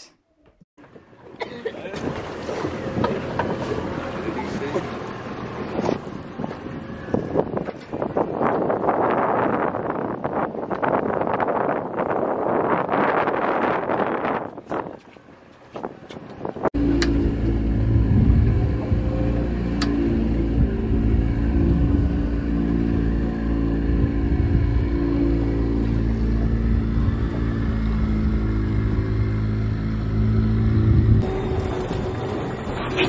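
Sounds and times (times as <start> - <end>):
outboard motor running: 0.8 - 11.7, 14.0 - 33.0.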